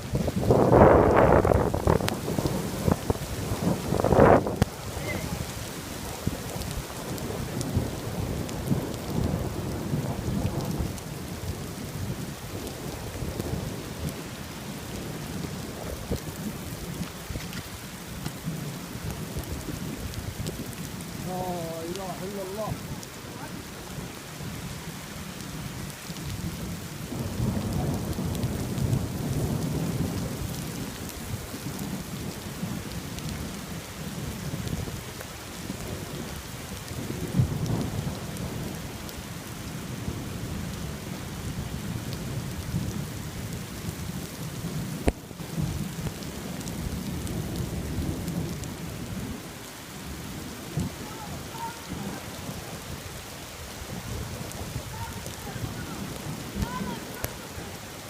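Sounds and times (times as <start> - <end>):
rain falling: 0.0 - 58.0
thunder rumbling: 0.0 - 58.0.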